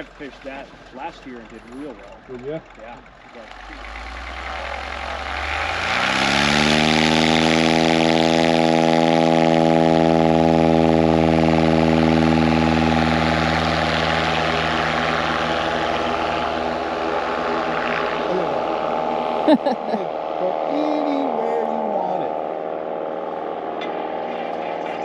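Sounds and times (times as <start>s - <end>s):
engine humming at high speed: 0.0s - 25.0s.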